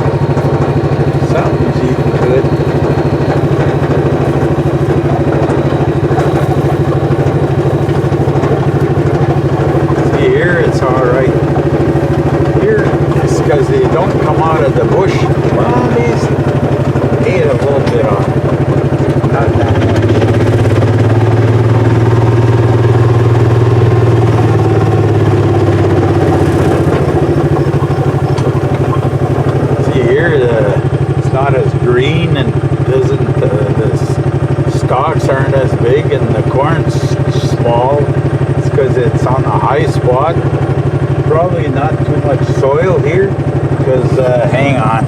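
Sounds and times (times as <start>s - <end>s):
utility vehicle engine running: 0.0s - 45.0s.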